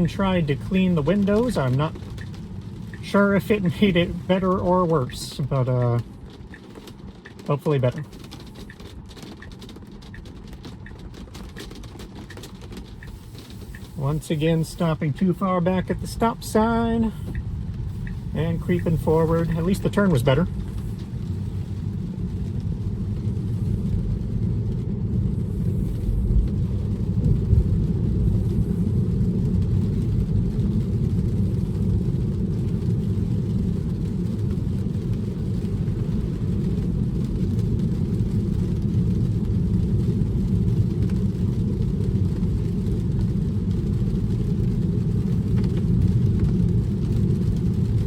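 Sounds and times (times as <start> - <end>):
road and tyre rumble: 0.0 - 48.0.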